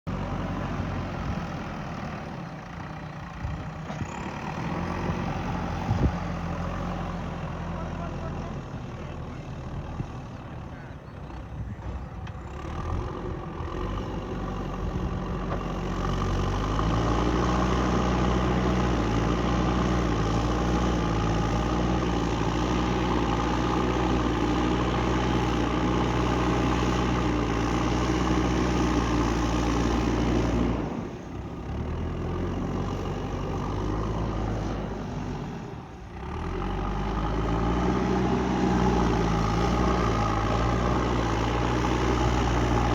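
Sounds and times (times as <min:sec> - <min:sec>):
diesel engine revving: 0:00.1 - 0:42.9.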